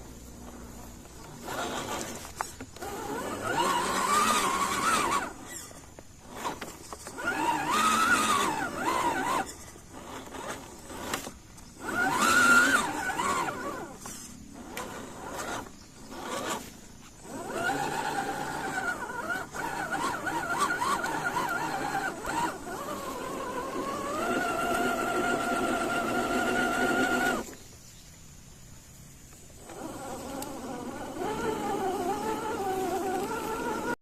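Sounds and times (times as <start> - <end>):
toy car electric motor whining: 0.3 - 27.6, 29.3 - 34.0.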